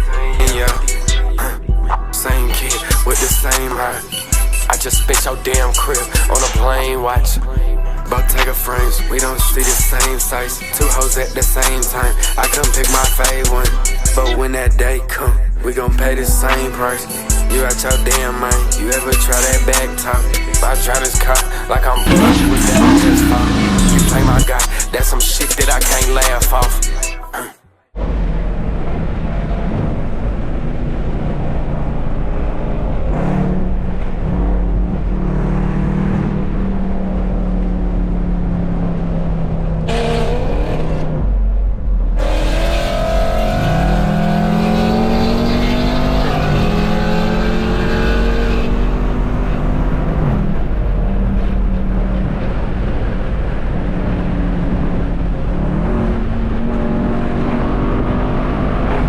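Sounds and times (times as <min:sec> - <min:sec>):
car engine accelerating: 0:00.0 - 0:27.2, 0:27.9 - 0:59.0.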